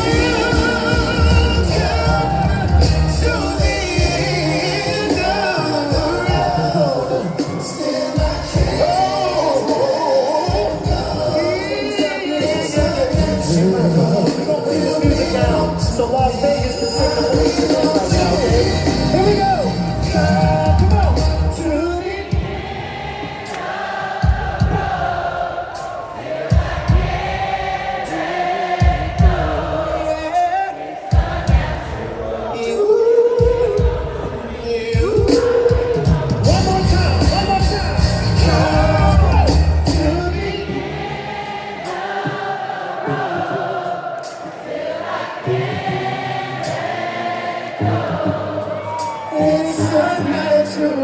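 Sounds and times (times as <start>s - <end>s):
live band playing: 0.0s - 42.3s
audience singing along: 0.0s - 51.0s.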